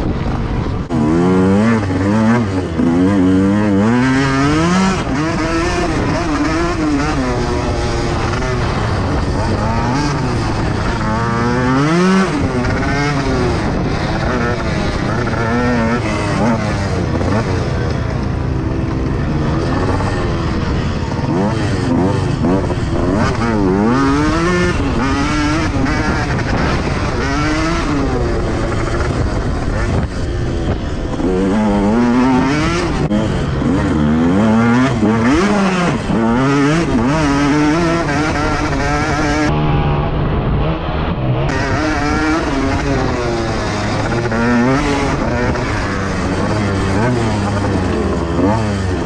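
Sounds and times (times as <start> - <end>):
motocross bike engine revving: 0.0 - 49.0.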